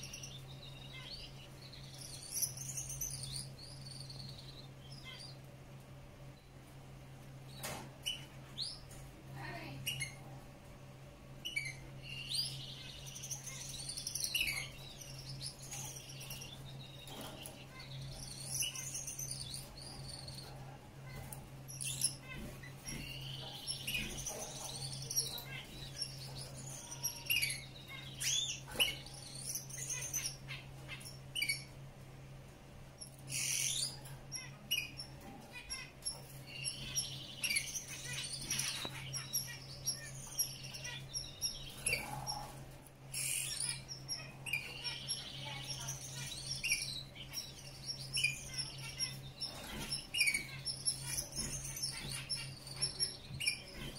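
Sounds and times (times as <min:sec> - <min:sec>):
finch singing: 0:00.0 - 0:05.5, 0:11.4 - 0:31.8, 0:33.0 - 0:53.9
steady low hum: 0:00.0 - 0:53.9.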